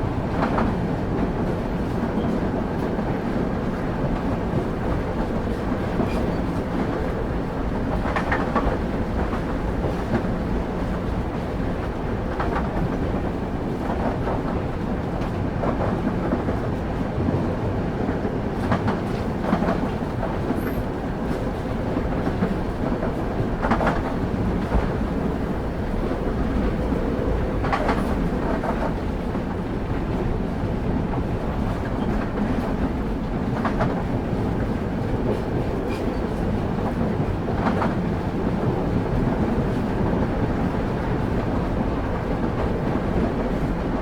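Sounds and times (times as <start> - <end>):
train rolling rumble: 0.0 - 44.0.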